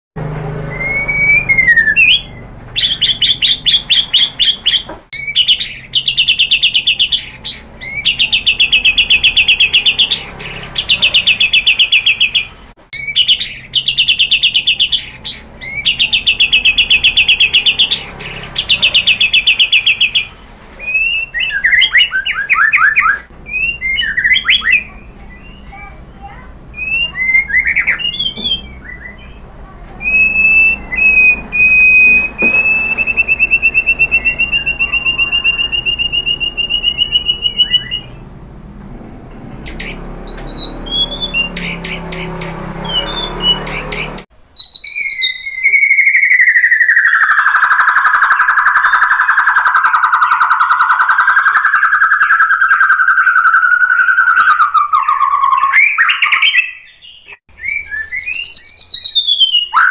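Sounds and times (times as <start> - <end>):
bird singing trills and whistles: 0.7 - 29.4, 30.0 - 38.3, 39.6 - 59.9.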